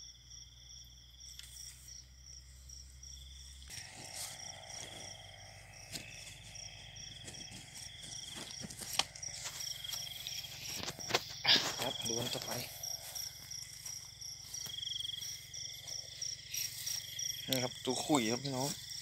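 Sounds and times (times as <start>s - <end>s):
crickets and insects trilling: 0.0s - 19.0s
insect pulsing high tone: 0.0s - 19.0s
rustles: 1.3s - 17.4s.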